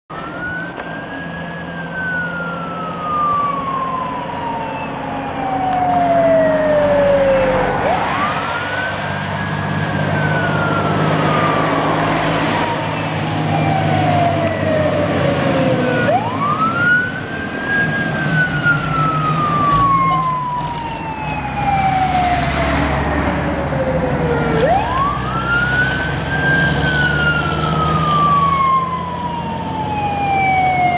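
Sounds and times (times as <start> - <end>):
fire engine siren wailing: 0.1 - 30.9
truck engine hum: 0.1 - 30.9.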